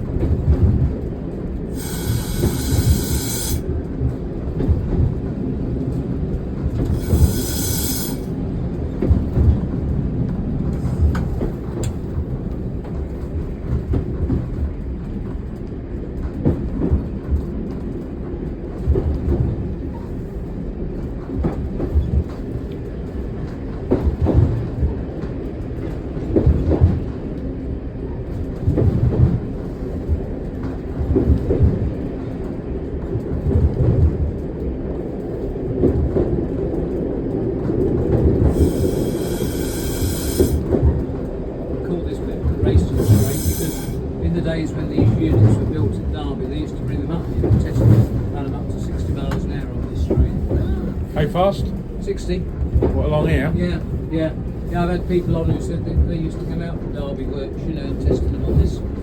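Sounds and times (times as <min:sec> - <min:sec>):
railcar engine running: 0:00.0 - 0:59.0.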